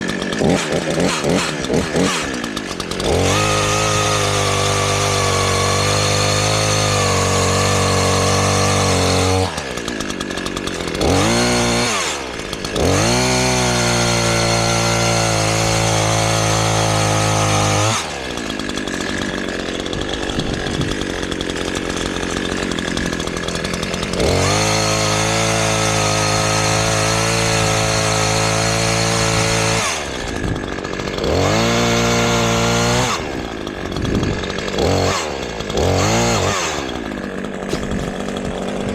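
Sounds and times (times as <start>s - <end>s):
chainsaw engine cutting logs: 0.0s - 38.9s.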